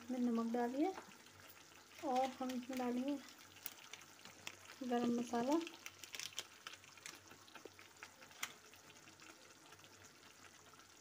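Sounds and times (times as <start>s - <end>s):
gravy simmering and popping: 0.0s - 11.0s.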